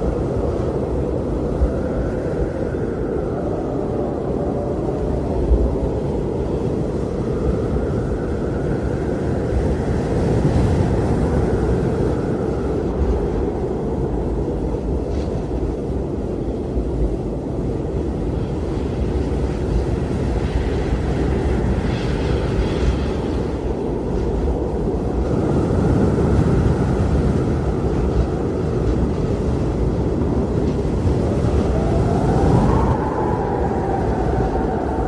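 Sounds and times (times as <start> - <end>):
blizzard wind rumbling: 0.0 - 35.0.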